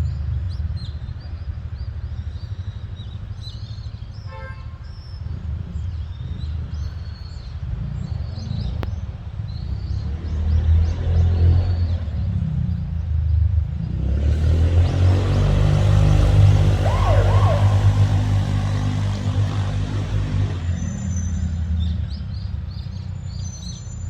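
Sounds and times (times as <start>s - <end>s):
small birds chirping: 0.3s - 24.0s.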